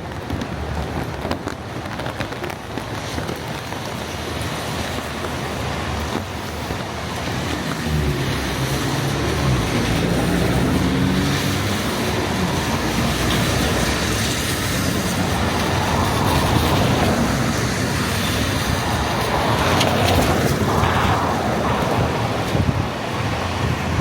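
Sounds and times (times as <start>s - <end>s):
steady rushing noise: 0.0s - 24.0s
train engine hum: 0.0s - 24.0s.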